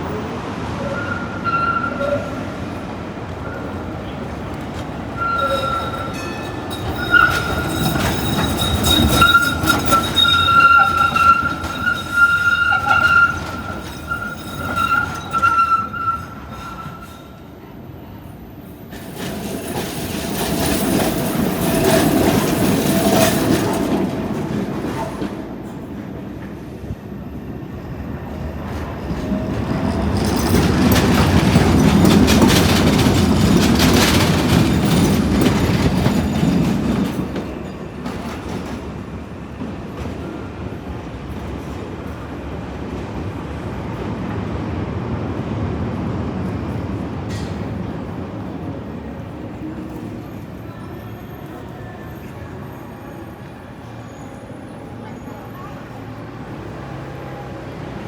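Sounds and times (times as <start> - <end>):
steel wheels squealing on rails: 0.0 - 44.4, 45.3 - 58.0
tram rumbling past: 0.0 - 58.0.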